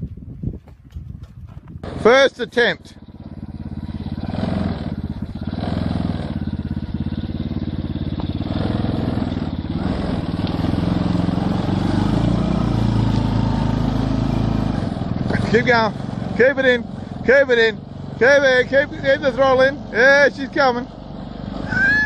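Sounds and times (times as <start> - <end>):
small engine running: 1.8 - 22.0.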